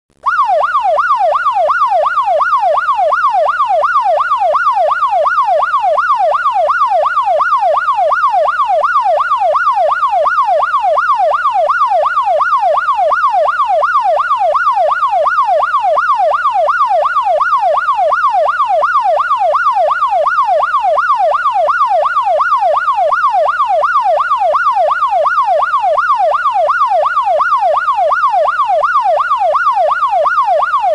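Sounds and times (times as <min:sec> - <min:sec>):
ambulance siren yelping: 0:00.2 - 0:30.9.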